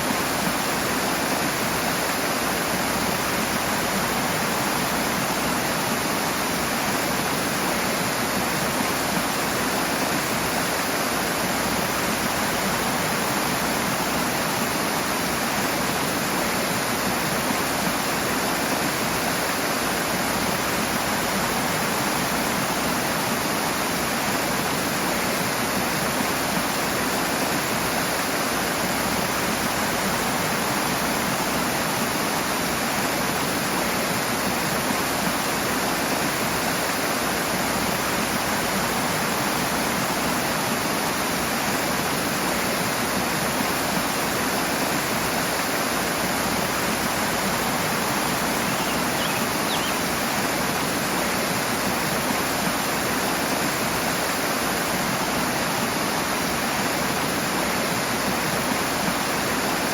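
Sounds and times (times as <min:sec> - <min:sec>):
rushing stream water: 0:00.0 - 0:59.9.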